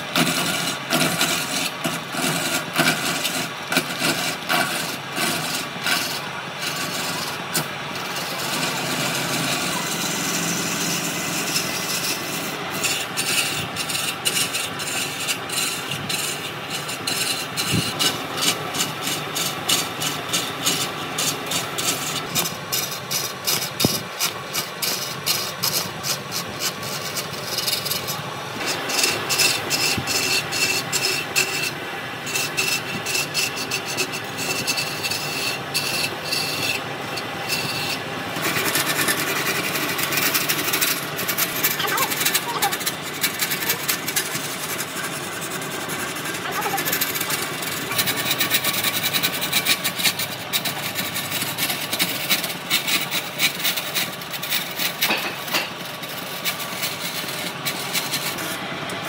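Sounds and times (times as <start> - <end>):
chisel cutting wood on a lathe: 0.0 - 59.0.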